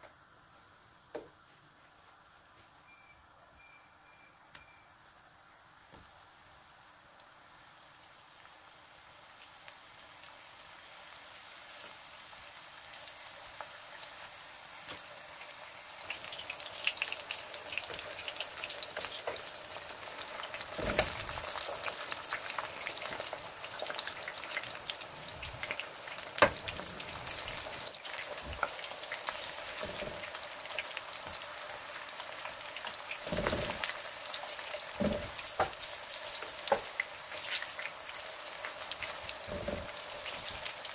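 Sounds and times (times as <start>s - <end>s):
eggplant frying in hot oil: 5.1s - 40.9s.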